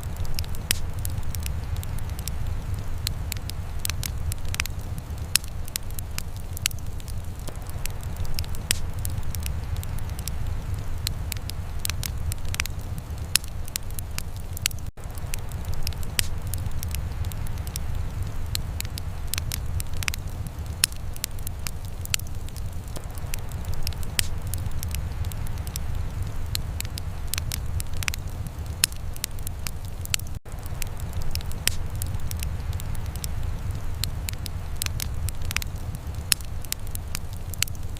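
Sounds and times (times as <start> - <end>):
low fire rumble: 0.0 - 37.9
wood fire crackling and popping: 0.0 - 37.9.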